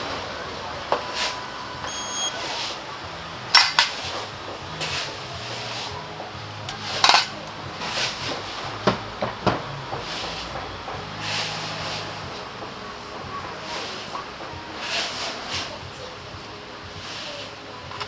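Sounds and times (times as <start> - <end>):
metal tools clinking: 0.0 - 18.0.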